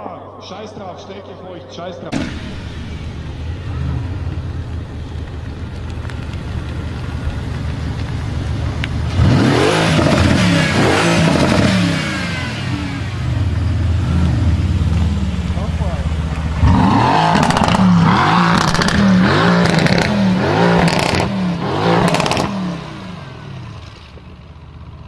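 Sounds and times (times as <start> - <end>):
car engine revving: 2.1 - 25.0.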